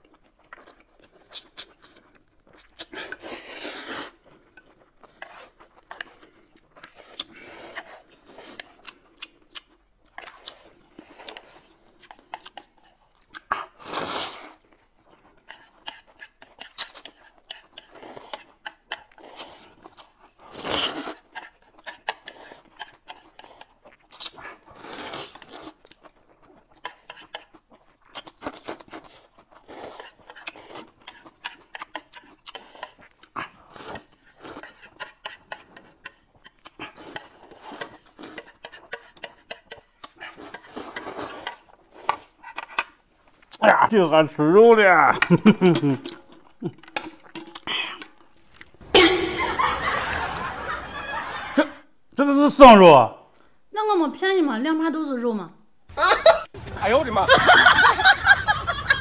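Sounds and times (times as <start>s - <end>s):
people slurping noodles: 1.1s - 43.0s, 45.1s - 51.9s.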